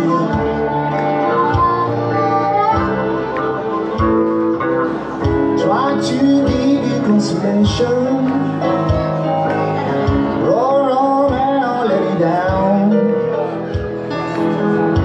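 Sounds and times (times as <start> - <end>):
bending lead melody: 0.0 - 15.0
electric guitar chords: 0.0 - 15.0
keyboard chords: 0.0 - 15.0
steady beat: 0.0 - 15.0.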